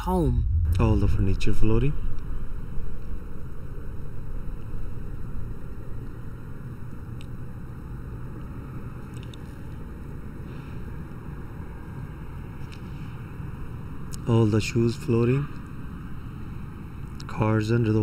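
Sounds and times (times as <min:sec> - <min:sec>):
low rumble of background noise: 0:00.0 - 0:18.0.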